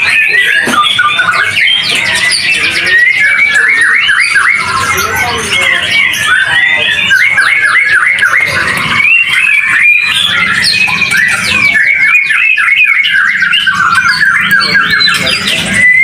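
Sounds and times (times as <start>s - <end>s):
birds singing whistled trills: 0.0s - 16.0s.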